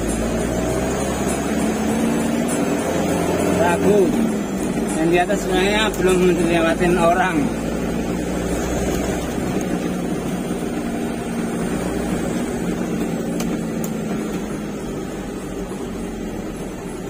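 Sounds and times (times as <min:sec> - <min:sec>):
road noise: 0:00.0 - 0:17.0
truck engine running: 0:00.0 - 0:17.0.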